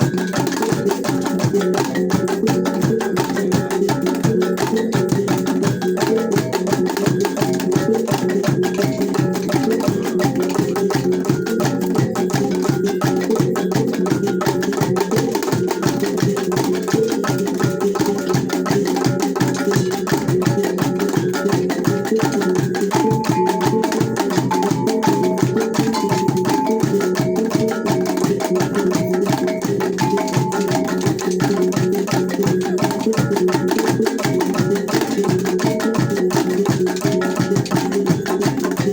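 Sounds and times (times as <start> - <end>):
traditional percussion ensemble: 0.0 - 38.9.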